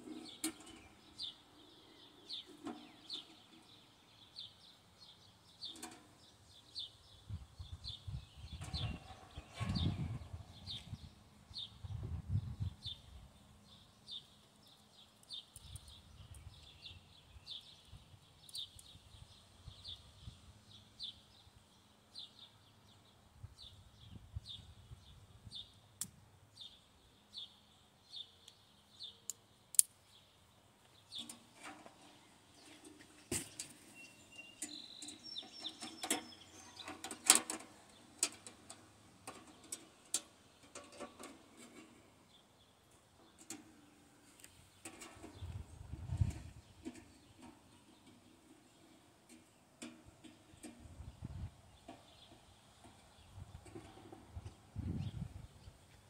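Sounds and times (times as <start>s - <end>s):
bird chirping: 0.0s - 25.8s, 26.5s - 56.0s.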